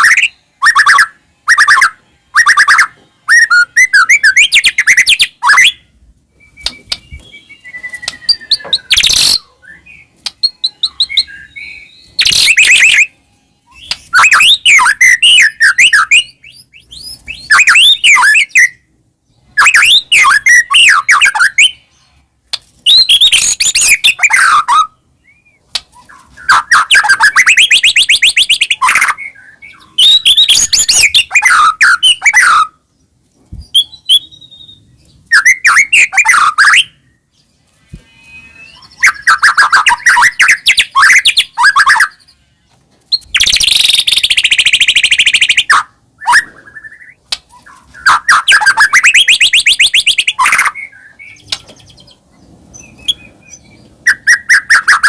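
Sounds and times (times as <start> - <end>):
songbird singing with trills: 0.0 - 22.1, 22.9 - 32.8, 33.6 - 42.4, 43.2 - 52.2, 52.8 - 55.0.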